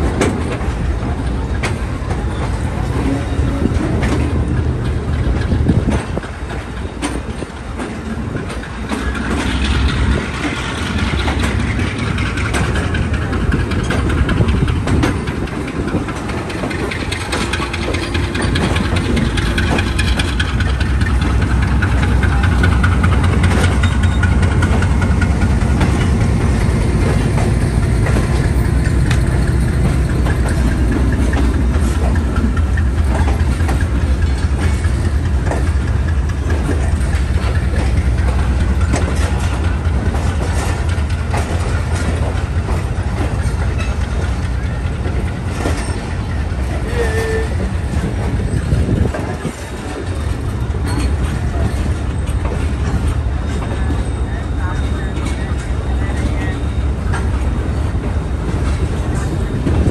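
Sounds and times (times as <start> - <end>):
diesel locomotive engine rumbling: 0.0 - 59.9.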